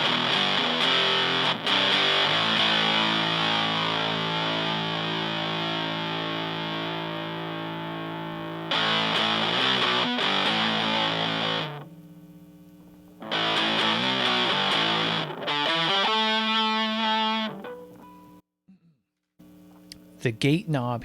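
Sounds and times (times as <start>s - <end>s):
heavily fuzzed electric guitar: 0.0s - 12.0s, 13.2s - 18.4s.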